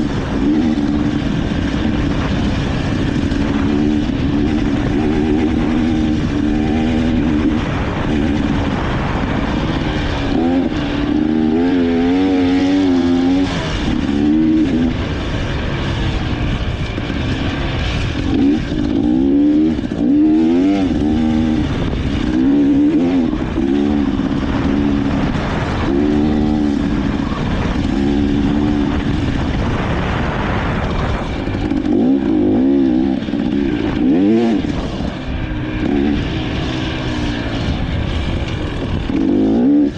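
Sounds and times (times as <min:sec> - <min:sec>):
constant rushing noise: 0:00.0 - 0:39.9
dirt bike engine revving: 0:00.0 - 0:39.9.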